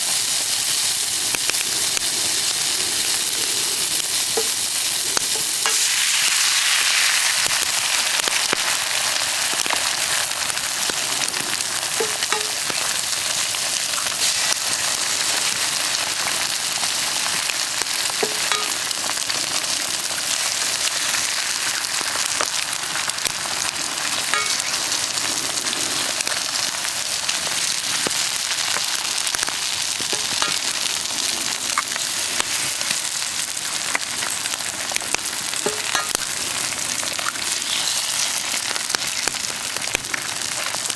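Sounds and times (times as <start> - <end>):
campfire crackling: 0.0 - 40.9
food sizzling in a pan: 0.0 - 40.9.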